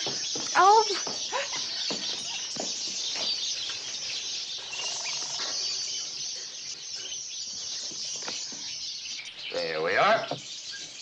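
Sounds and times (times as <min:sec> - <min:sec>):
songbirds chirping and twittering: 0:00.0 - 0:11.0.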